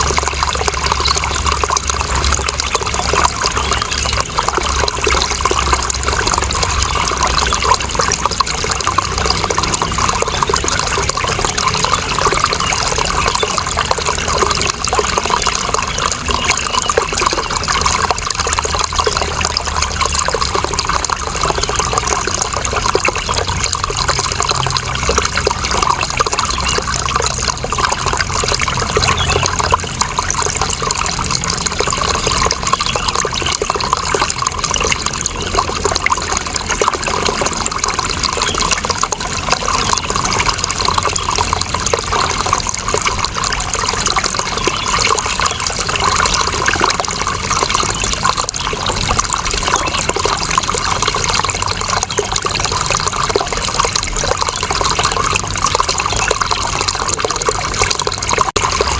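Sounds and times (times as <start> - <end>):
water running and trickling: 0.0 - 58.9.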